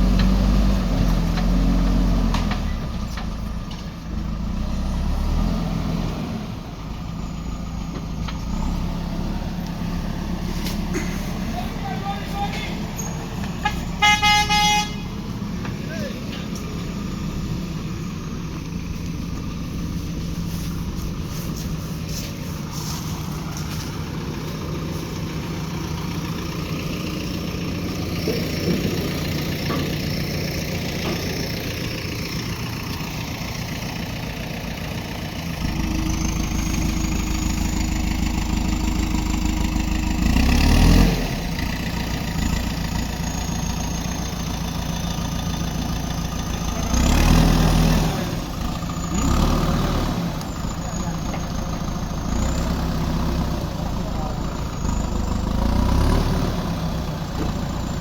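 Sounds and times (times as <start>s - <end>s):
backhoe diesel engine: 0.0s - 58.0s.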